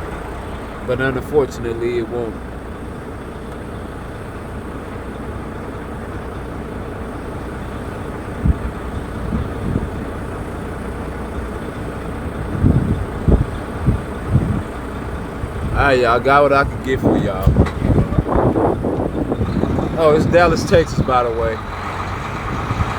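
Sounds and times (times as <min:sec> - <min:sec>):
distant city traffic hum: 0:00.0 - 0:22.9.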